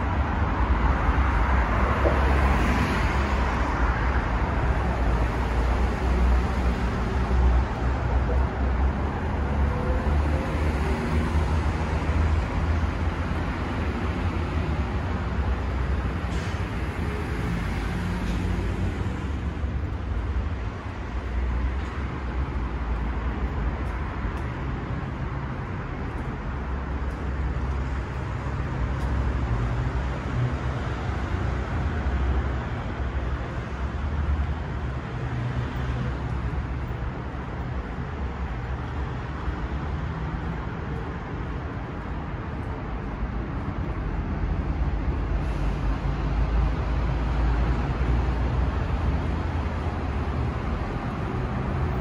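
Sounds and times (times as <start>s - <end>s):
cars passing on busy street: 0.0s - 52.0s.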